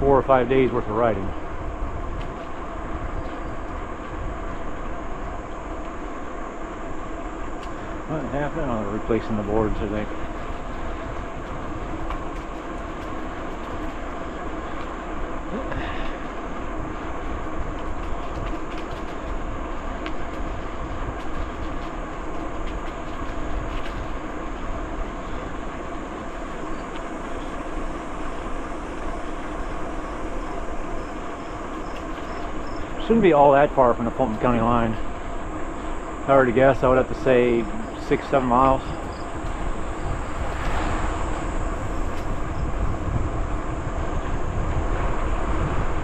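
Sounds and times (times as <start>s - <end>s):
bicycle tyres and frame rattling: 0.0s - 46.0s.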